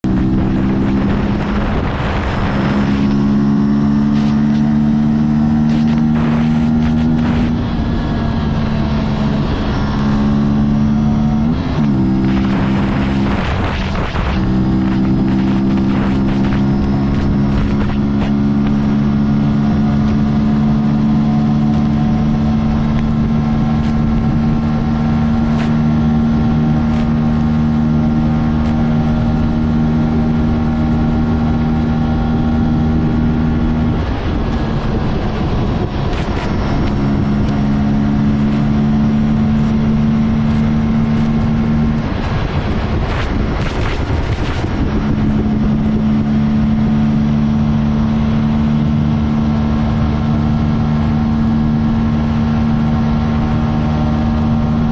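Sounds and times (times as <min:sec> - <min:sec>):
motorcycle engine at speed: 0:00.0 - 0:54.9
road noise: 0:00.0 - 0:54.9
wind noise: 0:00.0 - 0:54.9.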